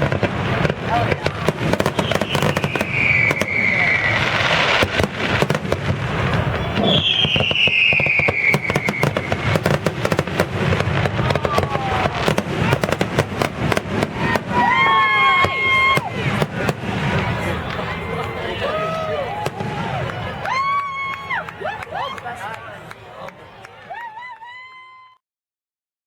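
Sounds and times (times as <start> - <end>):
fireworks falling whistles: 0.0 - 21.4
fireworks bangs and crackling: 0.0 - 23.6.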